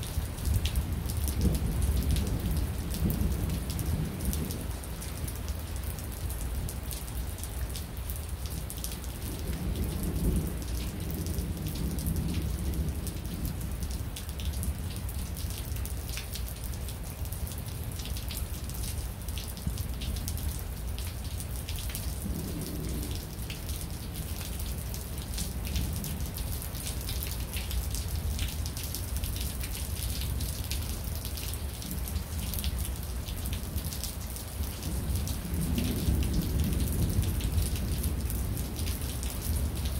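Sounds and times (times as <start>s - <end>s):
steady rain: 0.0s - 39.9s
raindrops ticking: 0.1s - 39.9s.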